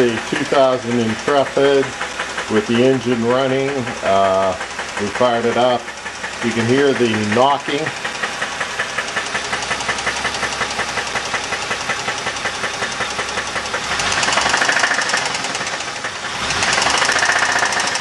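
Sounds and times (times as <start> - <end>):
engine knocking: 0.0 - 18.0.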